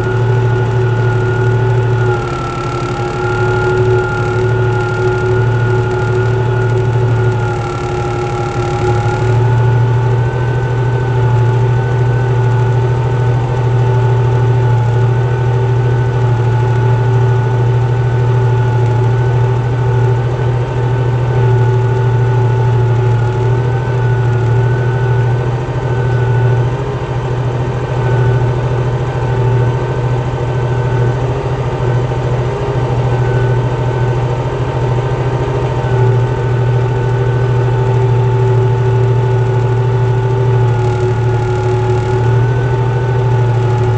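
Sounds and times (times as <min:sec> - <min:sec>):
high engine whine: 0:00.0 - 0:43.9
tractor diesel engine running: 0:00.0 - 0:43.9.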